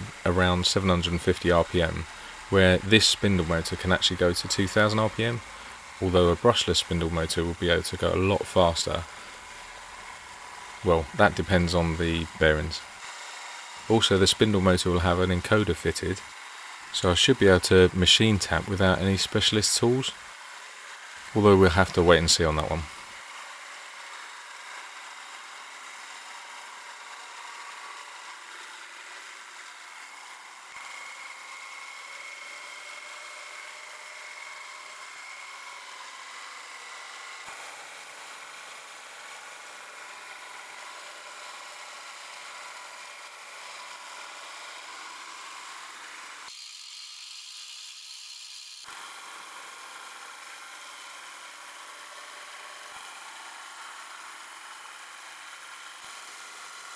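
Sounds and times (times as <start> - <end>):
mini mill cutting metal: 0.0 - 56.9.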